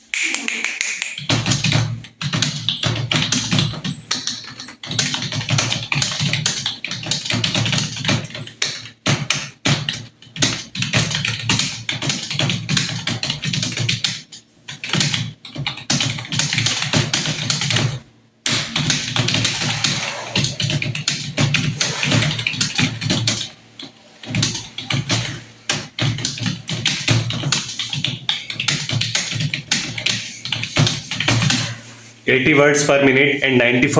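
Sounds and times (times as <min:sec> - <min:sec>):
fast typing on keyboard: 0:00.2 - 0:31.8.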